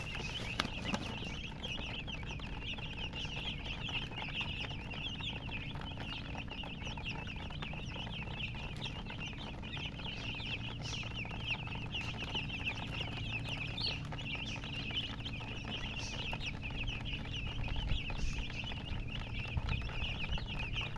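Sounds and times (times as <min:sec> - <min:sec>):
baby chicks peeping: 0:00.0 - 0:20.9.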